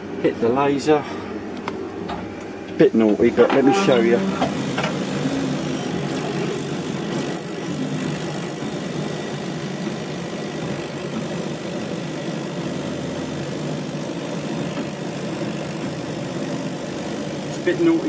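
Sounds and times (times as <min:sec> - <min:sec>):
laser cutter pump hum: 0:01.4 - 0:18.0.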